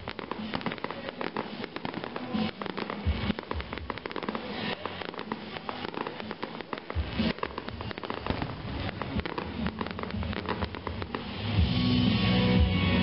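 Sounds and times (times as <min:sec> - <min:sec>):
firework crackling pops: 0:00.0 - 0:12.0.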